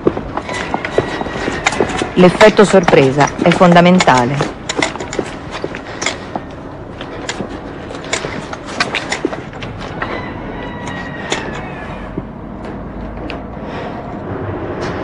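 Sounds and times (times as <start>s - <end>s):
footsteps and gear clicking: 0.0s - 13.5s.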